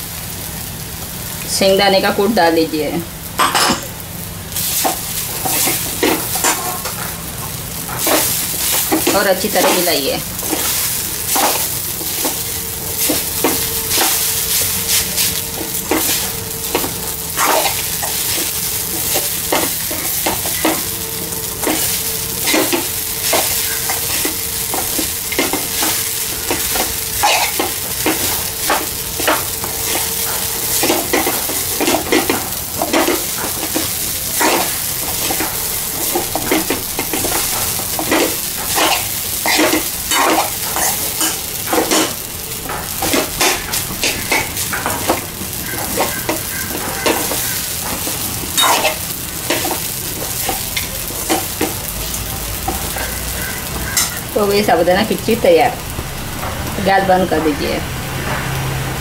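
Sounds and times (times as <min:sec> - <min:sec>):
food sizzling: 0:00.0 - 0:59.0
metal spoon scraping a pan: 0:04.8 - 0:07.1, 0:07.9 - 0:54.2.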